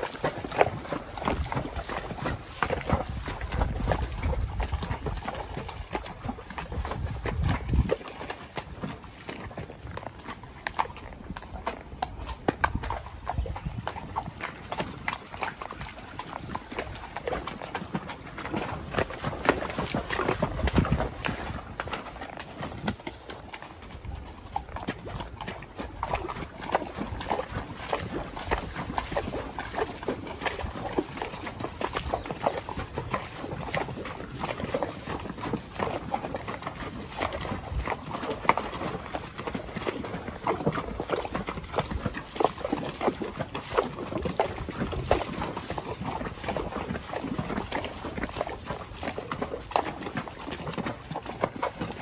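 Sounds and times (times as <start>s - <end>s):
horse hooves splashing in creek: 0.0s - 52.0s.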